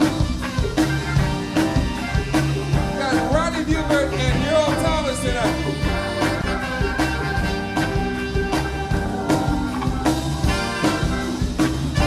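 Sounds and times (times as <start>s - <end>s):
soul band playing live: 0.0s - 12.0s.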